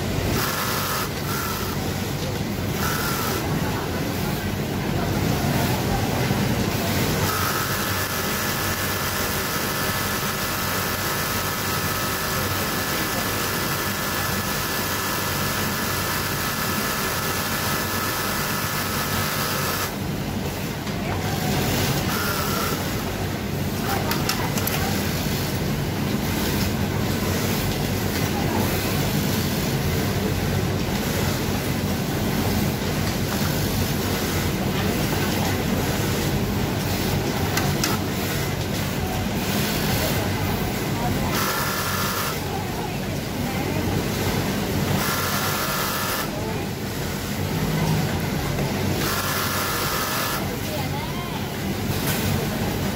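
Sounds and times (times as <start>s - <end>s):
hum of factory machines: 0.0s - 52.9s.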